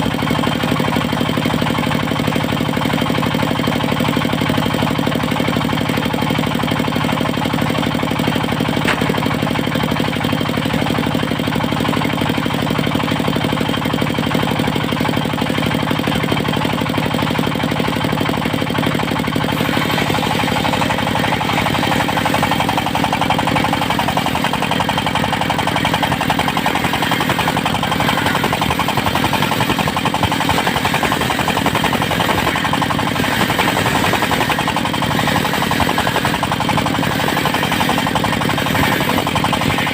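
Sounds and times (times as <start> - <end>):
diesel sawmill engine knocking: 0.0 - 39.9.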